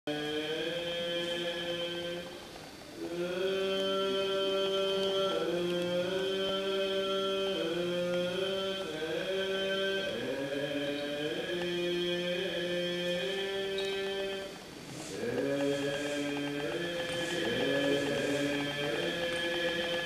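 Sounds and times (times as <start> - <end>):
buddhist sutra chanting: 0.1 - 20.0.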